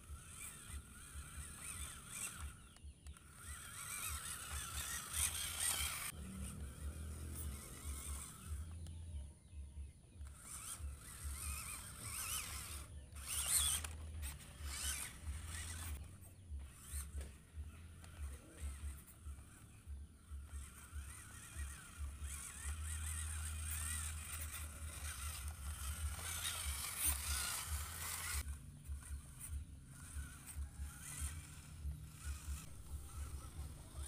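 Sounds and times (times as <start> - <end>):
rc truck electric motor whining: 0.0 - 34.0.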